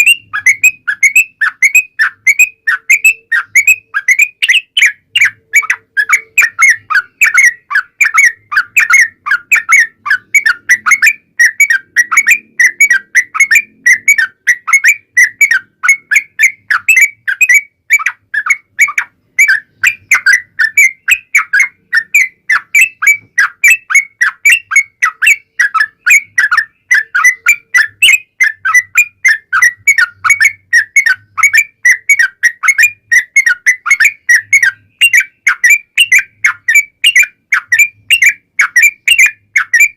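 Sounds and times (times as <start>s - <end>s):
bird whistled chirping song: 0.0s - 39.9s.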